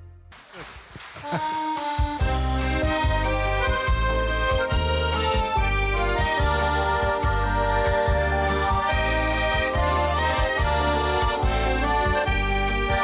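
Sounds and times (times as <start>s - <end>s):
accordion folk melody: 1.0s - 13.0s.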